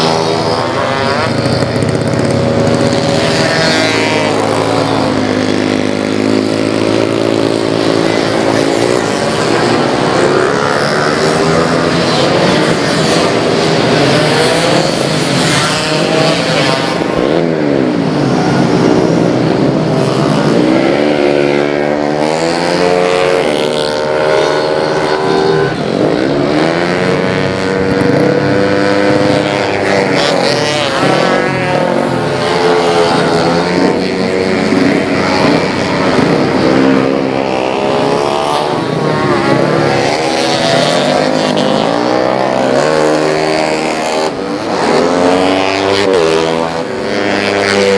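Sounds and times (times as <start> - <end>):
scooter engines revving: 0.0 - 47.9.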